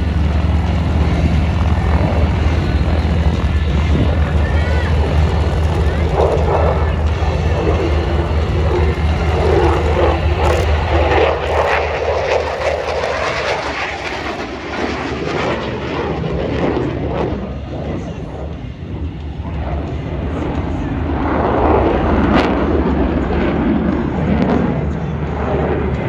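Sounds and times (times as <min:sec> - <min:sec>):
jet aircraft flying past: 0:00.0 - 0:26.0.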